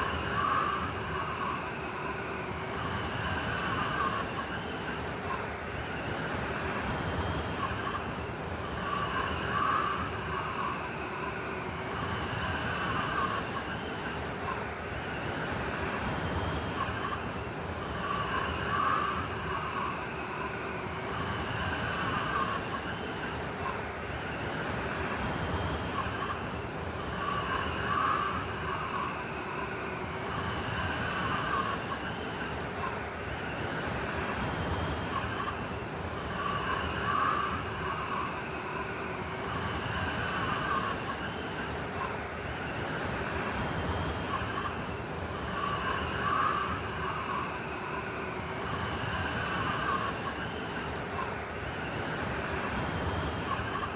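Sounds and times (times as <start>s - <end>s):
blizzard wind whistling: 0.0s - 53.9s.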